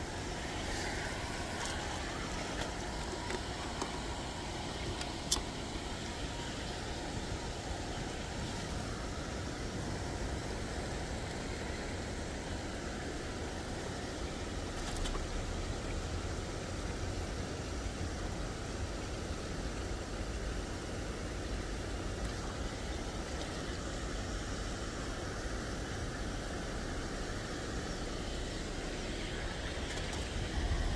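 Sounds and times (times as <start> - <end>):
outdoor background rumble: 0.0 - 30.9
soft hiss: 0.0 - 30.9.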